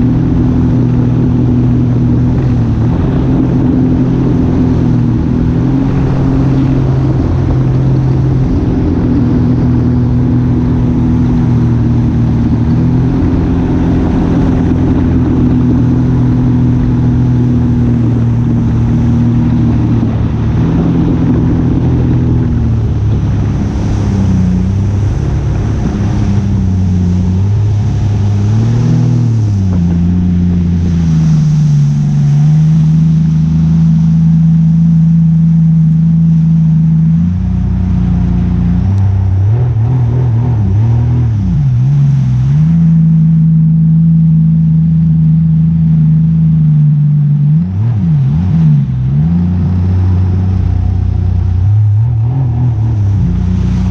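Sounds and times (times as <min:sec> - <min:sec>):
engine running under load: 0:00.0 - 0:53.9.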